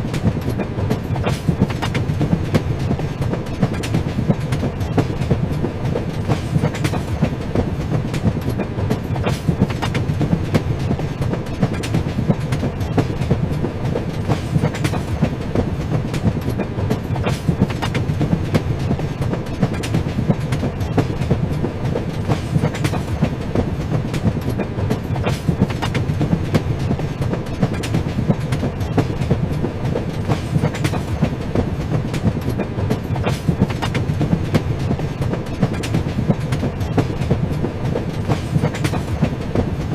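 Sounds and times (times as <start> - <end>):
train wheels clickety-clack: 0.0 - 39.9.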